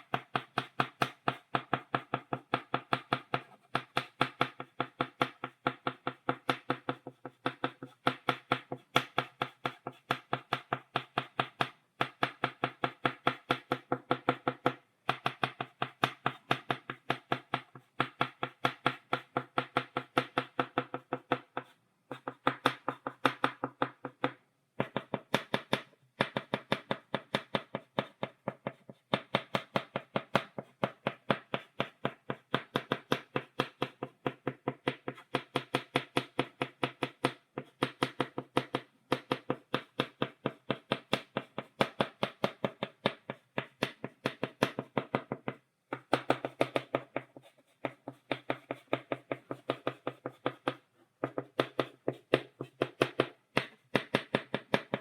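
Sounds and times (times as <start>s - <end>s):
chalk tapping on blackboard: 0.0s - 55.0s.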